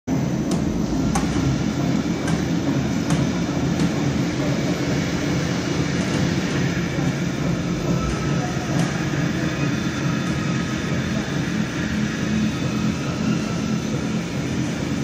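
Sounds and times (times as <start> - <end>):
machinery rumbling: 0.1 - 15.0.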